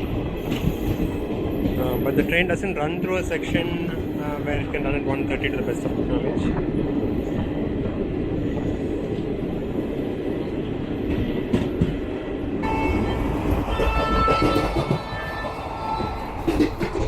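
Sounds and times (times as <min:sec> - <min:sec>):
standing train rumbling: 0:00.0 - 0:17.0.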